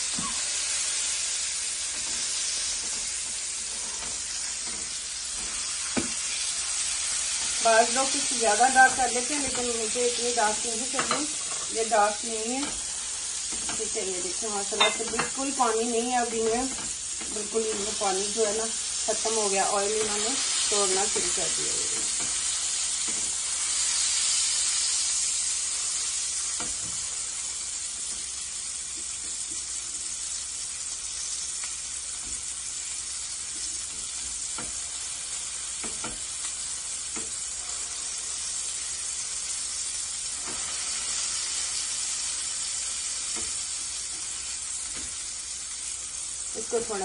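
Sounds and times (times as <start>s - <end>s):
patties sizzling in oil: 0.0s - 47.0s.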